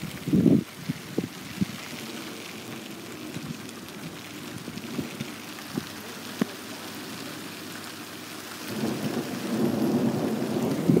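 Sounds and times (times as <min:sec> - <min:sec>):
steady rain hiss: 0:00.0 - 0:11.0
thunder rumbling: 0:00.0 - 0:11.0.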